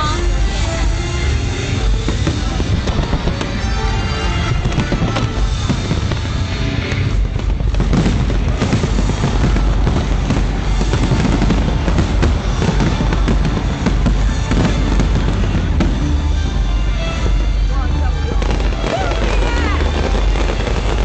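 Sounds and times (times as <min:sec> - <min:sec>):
fireworks bangs and crackling: 0:00.0 - 0:21.0
low rumble: 0:00.0 - 0:21.0
music playing: 0:00.0 - 0:21.0.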